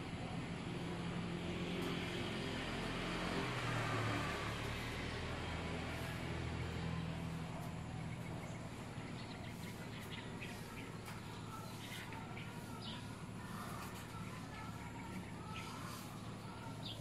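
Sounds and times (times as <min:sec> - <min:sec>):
birds chirping: 0:02.2 - 0:17.0.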